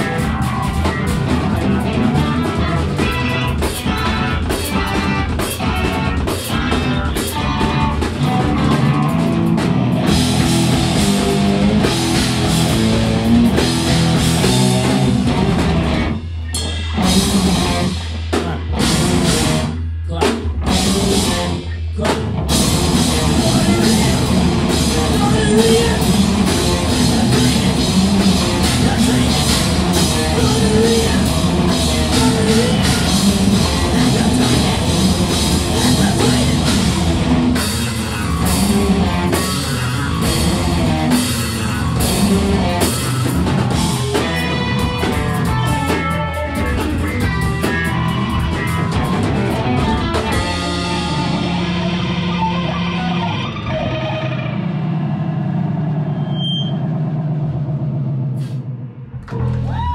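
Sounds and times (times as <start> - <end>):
bass guitar rumble: 0.0 - 59.9
drum kit: 0.0 - 59.9
electric guitars: 0.0 - 59.9.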